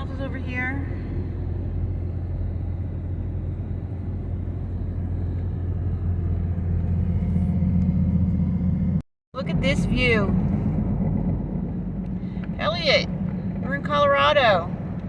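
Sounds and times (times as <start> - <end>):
vehicle driving inside cab: 0.0 - 15.0.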